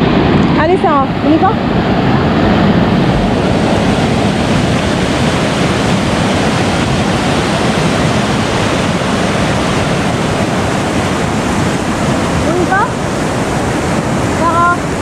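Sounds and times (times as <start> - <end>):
river rushing over a weir: 0.0 - 15.0.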